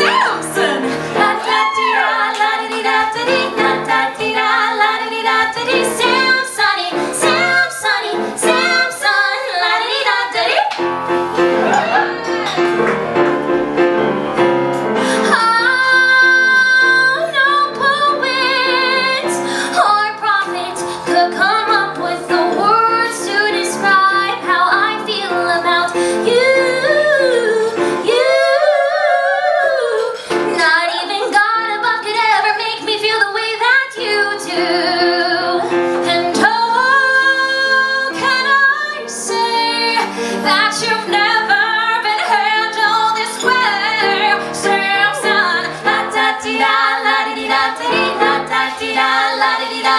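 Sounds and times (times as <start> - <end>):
women singing a duet: 0.0 - 10.8, 15.1 - 49.9
piano accompaniment: 0.0 - 49.9.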